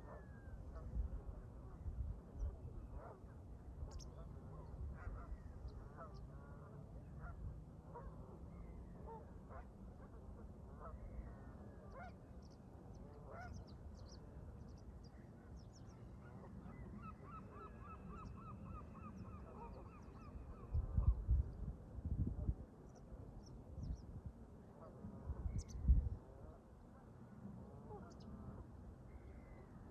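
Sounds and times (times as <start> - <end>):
wind rumble on microphone: 0.0 - 15.0, 18.0 - 29.9.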